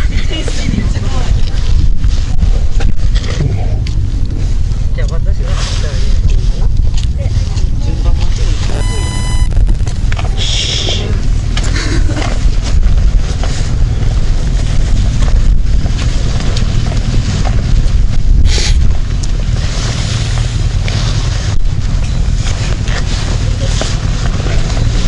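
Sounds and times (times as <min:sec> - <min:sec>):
wind buffeting microphone: 0:00.0 - 0:08.8, 0:09.5 - 0:25.0
road rumble: 0:00.0 - 0:25.0.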